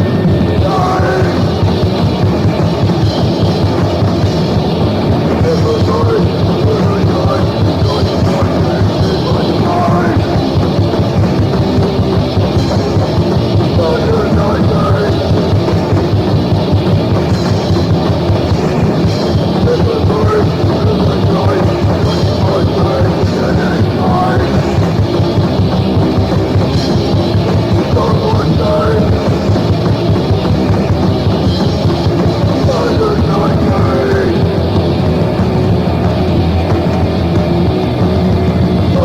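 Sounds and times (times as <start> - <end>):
driving drum kit: 0.0 - 39.0
punk band playing: 0.0 - 39.0.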